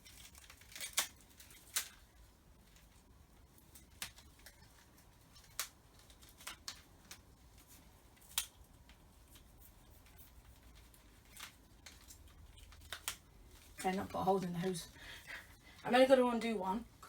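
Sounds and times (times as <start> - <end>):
plastic packaging clicks and scrapes: 0.0 - 14.0.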